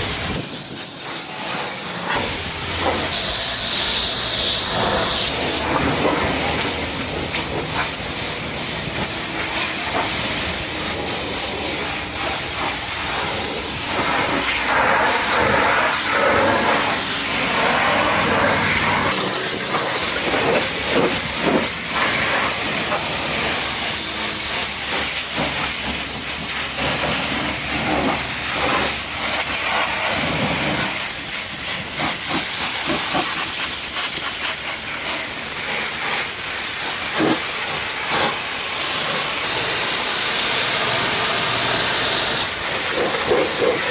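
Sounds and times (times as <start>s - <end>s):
pressure washer spraying: 0.0s - 3.5s, 4.7s - 39.5s, 41.4s - 43.9s.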